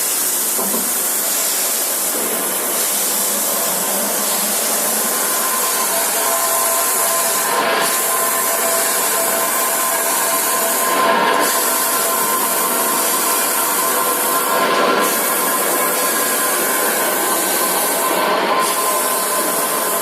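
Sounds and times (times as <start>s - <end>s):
drilling machine grinding and hissing: 0.0s - 20.0s.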